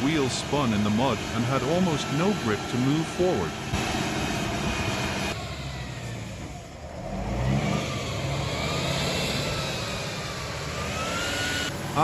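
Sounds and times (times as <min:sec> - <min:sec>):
truck diesel engine revving: 0:00.0 - 0:12.0.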